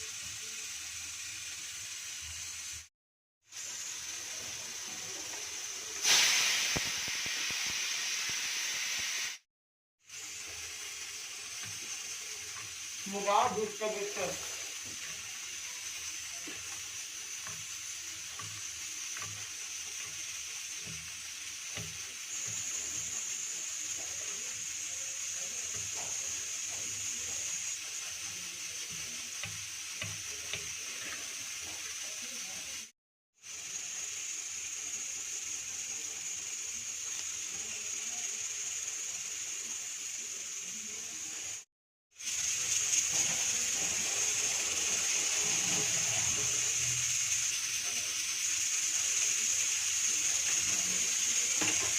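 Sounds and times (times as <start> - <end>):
food sizzling in hot oil: 0.0 - 51.9.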